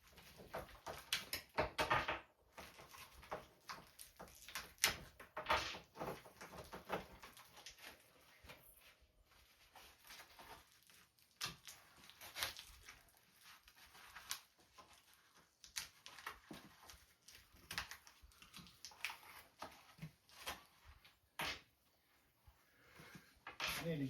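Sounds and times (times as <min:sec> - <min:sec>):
faint clicks and rustles: 0:00.0 - 0:24.0.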